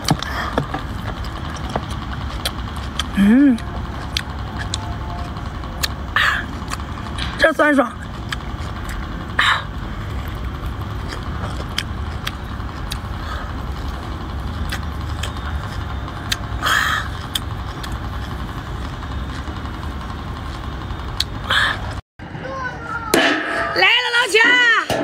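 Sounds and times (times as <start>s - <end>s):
chewing and peeling food: 0.0s - 7.3s, 7.9s - 22.0s
steady low rumble: 0.0s - 25.0s.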